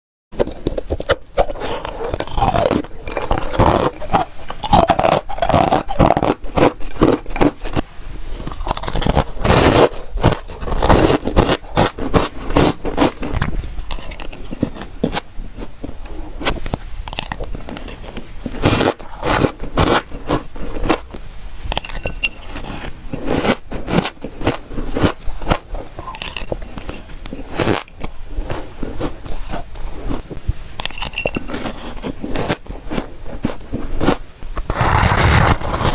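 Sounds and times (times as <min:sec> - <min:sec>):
frost crunching and scraping: 0:00.4 - 0:35.9.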